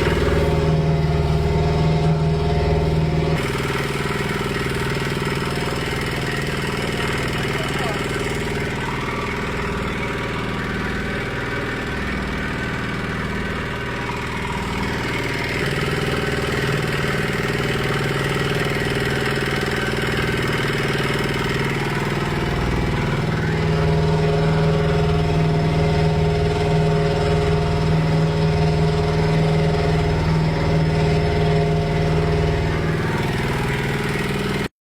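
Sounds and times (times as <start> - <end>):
feed mixer mechanical drone: 0.0 - 34.7.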